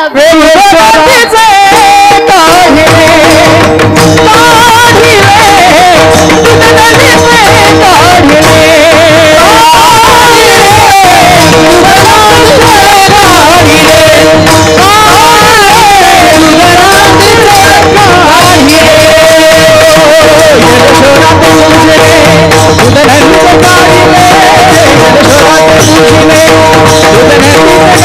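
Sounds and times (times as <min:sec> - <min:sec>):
harmonium held notes: 0:00.0 - 0:28.0
person singing ornamented melody: 0:00.0 - 0:28.0
hand drum: 0:00.2 - 0:28.0.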